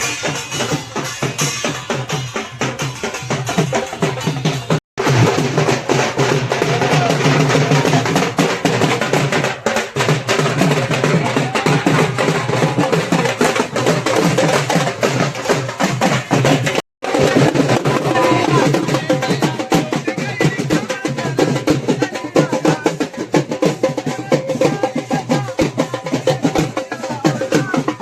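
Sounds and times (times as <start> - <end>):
music with driving drums: 0.0 - 28.0.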